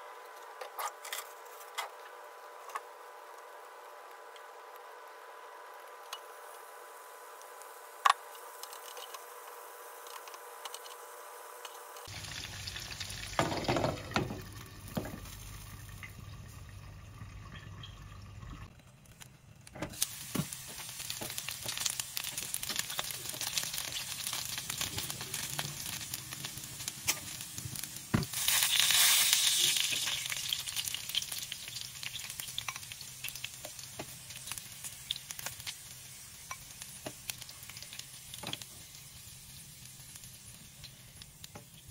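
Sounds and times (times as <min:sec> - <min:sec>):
chicken sizzling in hot oil: 0:00.9 - 0:17.0, 0:19.9 - 0:41.9.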